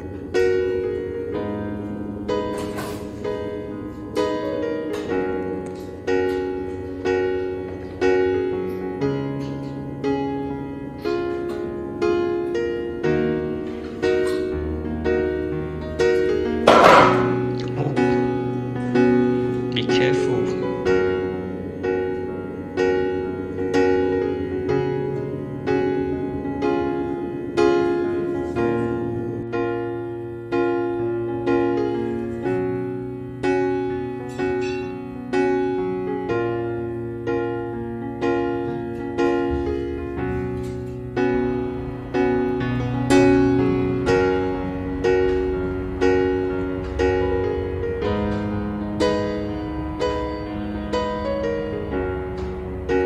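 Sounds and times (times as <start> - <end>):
solo piano music: 0.0 - 53.0.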